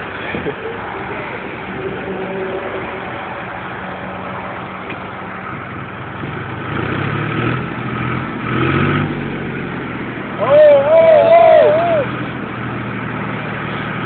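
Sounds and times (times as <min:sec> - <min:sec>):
tractor engine revving: 0:00.0 - 0:14.0.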